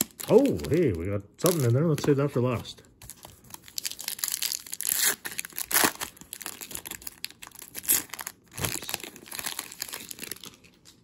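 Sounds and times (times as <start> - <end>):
foil wrapper tearing and crinkling: 0.0 - 2.2, 3.1 - 11.0.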